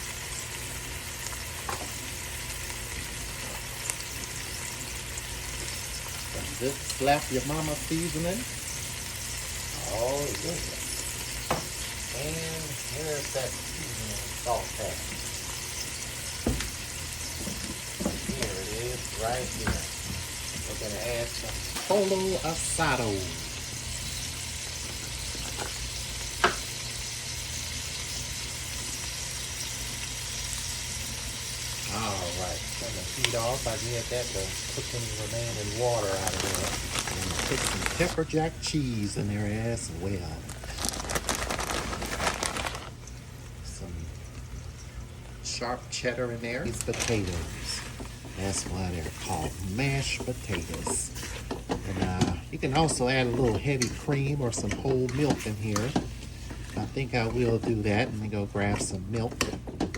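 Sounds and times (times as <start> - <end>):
food sizzling in a pot: 0.0 - 59.9.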